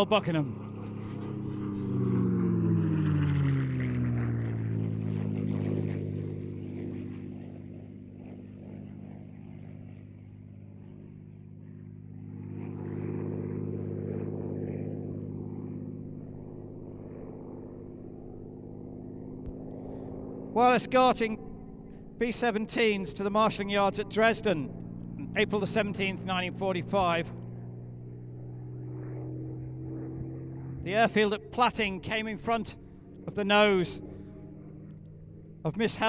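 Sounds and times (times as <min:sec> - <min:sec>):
propeller plane engine in flight: 0:00.0 - 0:36.0.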